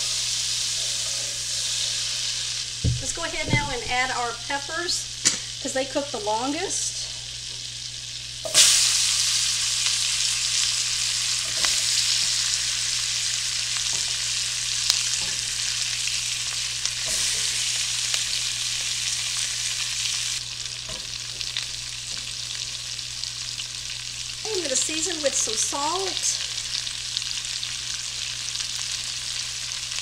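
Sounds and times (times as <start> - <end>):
pepper strips sizzling in oil: 0.0 - 30.0.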